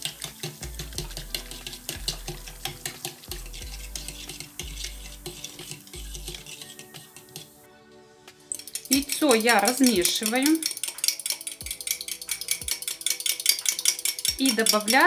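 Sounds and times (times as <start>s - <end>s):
fork scraping plastic bowl: 0.0s - 7.6s, 8.5s - 15.0s.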